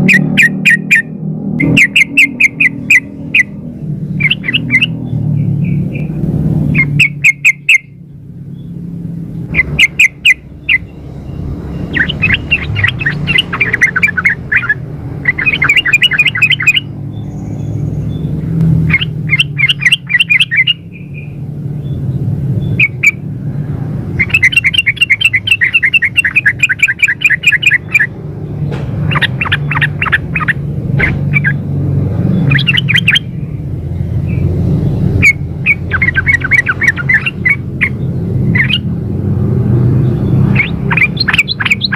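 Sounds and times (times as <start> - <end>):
bird chattering call: 0.0 - 8.0, 9.4 - 21.4, 22.6 - 23.2, 24.1 - 28.2, 29.0 - 31.6, 32.3 - 33.4, 34.2 - 38.9, 40.1 - 41.9.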